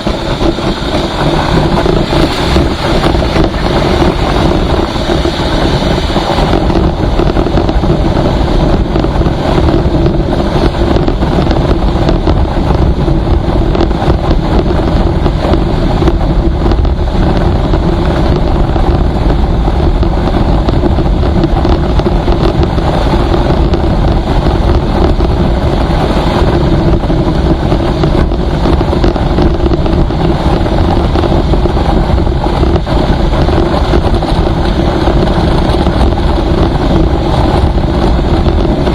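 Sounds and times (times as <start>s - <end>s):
road noise: 0.0s - 38.9s
vehicle engine hum: 0.0s - 38.9s
wind buffeting microphone: 0.0s - 38.9s.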